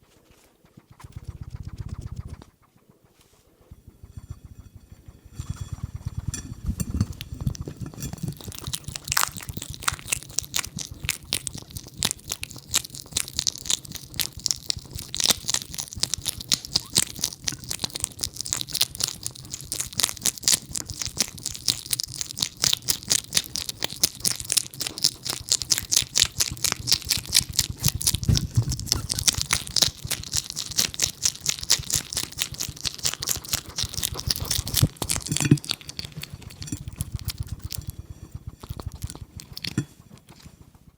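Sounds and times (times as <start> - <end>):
hedgehog chewing food: 0.1 - 40.9.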